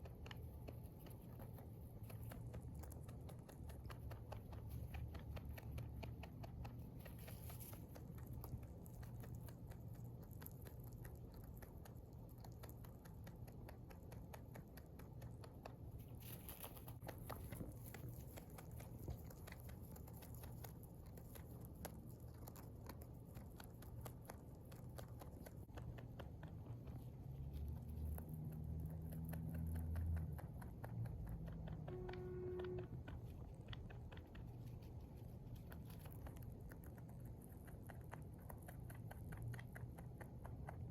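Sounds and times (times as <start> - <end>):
rabbit chewing hay: 0.0 - 40.9.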